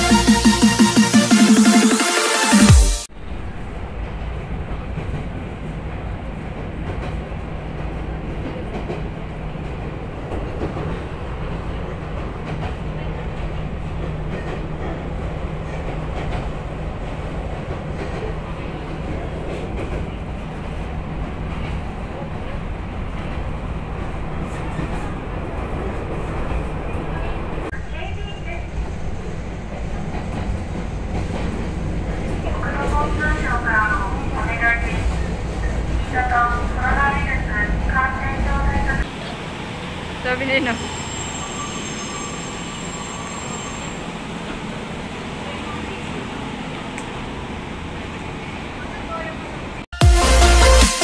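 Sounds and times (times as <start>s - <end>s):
train wheels rumbling on rails: 3.2s - 49.8s.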